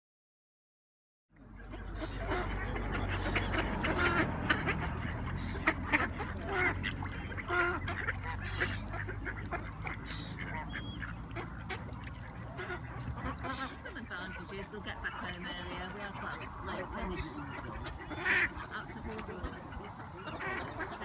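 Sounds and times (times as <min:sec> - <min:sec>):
ducks quacking: 0:01.4 - 0:21.0
low steady rumble: 0:01.4 - 0:21.0.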